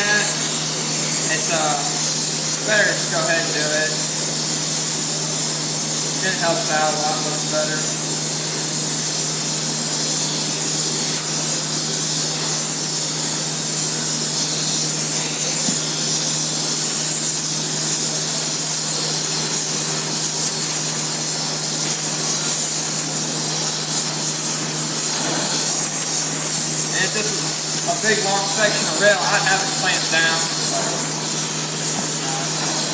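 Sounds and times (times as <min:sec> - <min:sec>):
propane torch hissing: 0:00.0 - 0:32.9.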